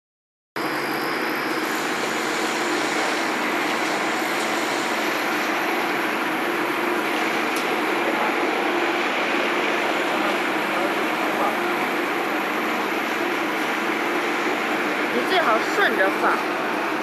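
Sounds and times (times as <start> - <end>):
machine whirring with low hum: 0.6 - 17.0.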